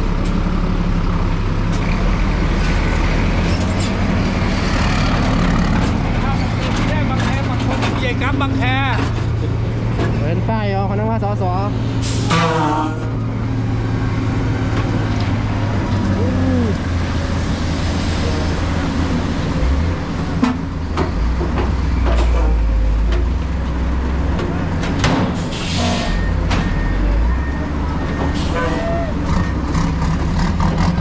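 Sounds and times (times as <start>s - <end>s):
truck diesel engines running: 0.0s - 31.0s.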